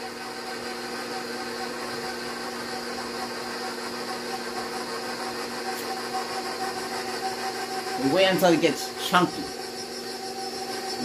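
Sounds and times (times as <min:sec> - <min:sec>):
stand mixer motor humming: 0:00.0 - 0:11.0.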